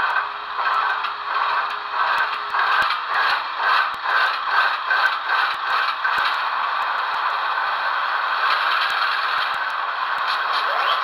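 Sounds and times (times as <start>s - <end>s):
model locomotive diesel engine sound: 0.0s - 11.0s.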